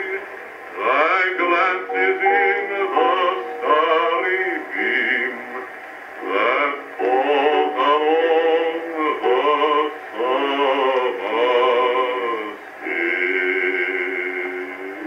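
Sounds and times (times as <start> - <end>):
male vocal quartet singing: 0.0 - 15.0.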